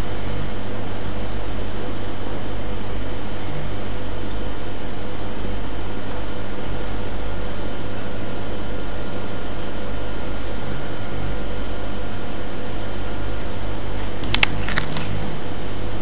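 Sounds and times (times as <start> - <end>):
room noise hum and hiss: 0.0 - 16.0.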